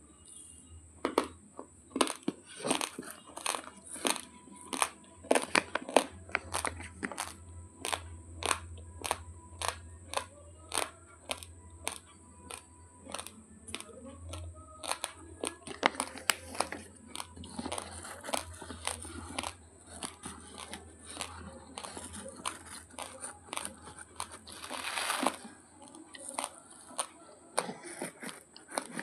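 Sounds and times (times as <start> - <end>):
chewing crunchy rice grains: 1.1 - 29.0.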